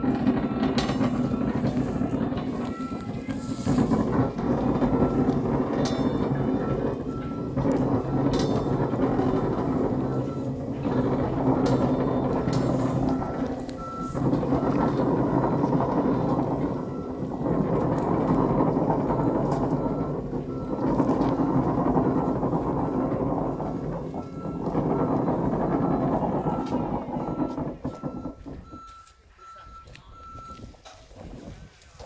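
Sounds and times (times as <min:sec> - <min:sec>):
metro train rumbling: 0:00.0 - 0:32.0.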